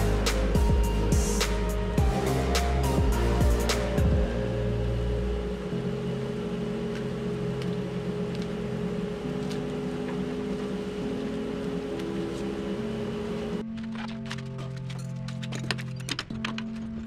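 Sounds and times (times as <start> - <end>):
steady hum: 0.0 - 13.7
sustained background music notes: 0.0 - 17.0.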